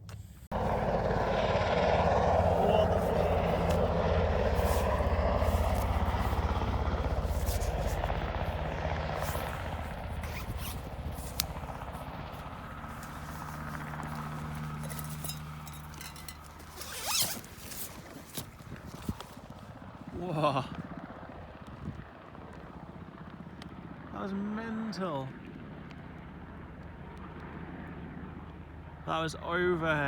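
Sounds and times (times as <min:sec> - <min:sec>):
low-flying aircraft drone: 0:00.0 - 0:30.0.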